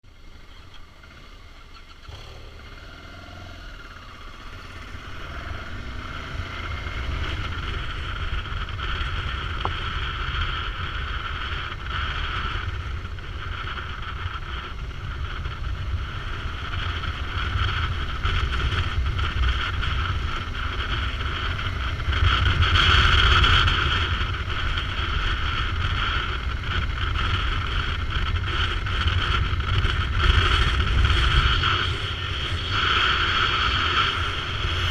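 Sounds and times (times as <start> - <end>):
motorcycle engine riding: 0.0 - 34.9
wind rumble on microphone: 0.1 - 34.9.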